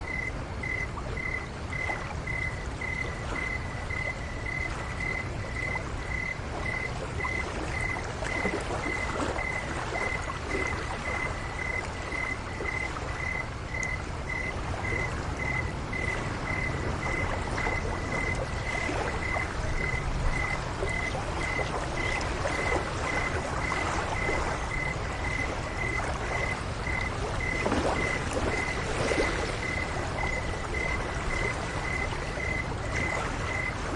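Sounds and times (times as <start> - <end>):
cricket chirping: 0.0 - 33.9
lake water lapping: 0.0 - 33.9.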